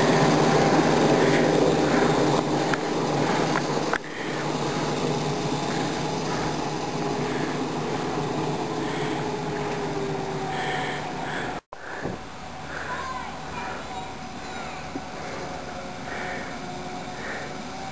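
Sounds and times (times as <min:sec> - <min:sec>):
ride-on train running on track: 0:00.0 - 0:17.9.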